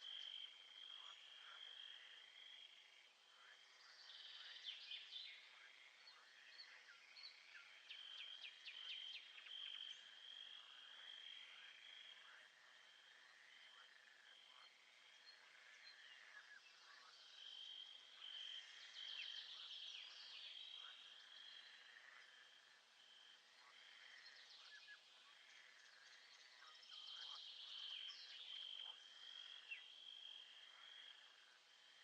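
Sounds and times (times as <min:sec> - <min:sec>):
pulsing trill of frogs or insects: 0:00.0 - 0:32.0.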